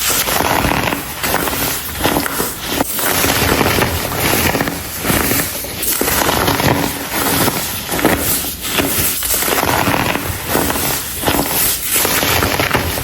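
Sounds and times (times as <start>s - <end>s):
powder clumps crunching by hand: 0.0s - 13.0s.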